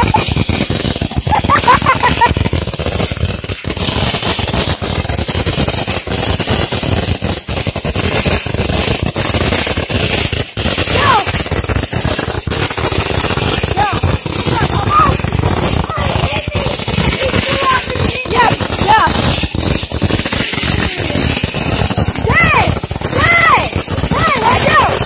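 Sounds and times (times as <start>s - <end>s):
firecrackers crackling: 0.0s - 25.0s.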